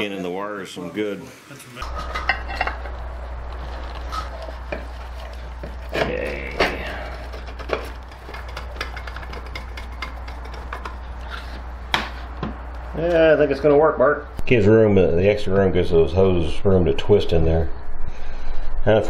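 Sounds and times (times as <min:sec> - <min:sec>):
steady low hum: 0:01.8 - 0:19.0.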